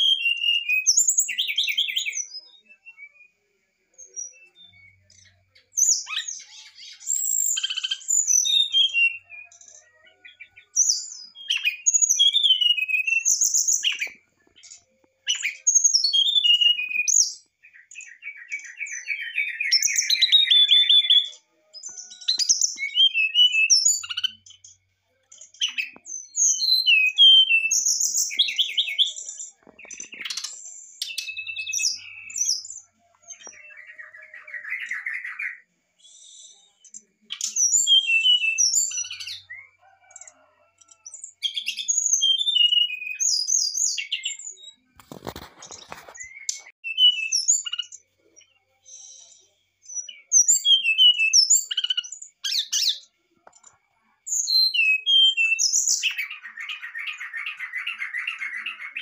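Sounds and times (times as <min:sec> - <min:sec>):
bird singing whistled phrases: 0:00.0 - 0:03.4, 0:04.0 - 0:24.4, 0:25.6 - 0:44.8, 0:46.0 - 0:48.0, 0:49.2 - 0:53.1, 0:54.3 - 0:59.0.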